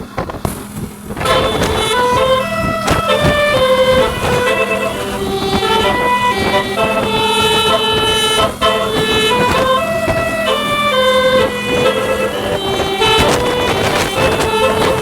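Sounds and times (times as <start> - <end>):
bus air horn melody: 0.0 - 15.0
steady low hum: 0.0 - 15.0.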